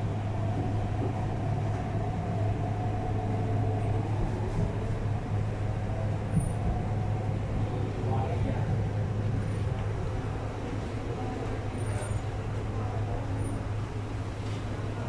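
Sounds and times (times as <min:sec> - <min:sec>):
electric train running interior: 0:00.0 - 0:15.0
faint held whine: 0:00.0 - 0:15.0.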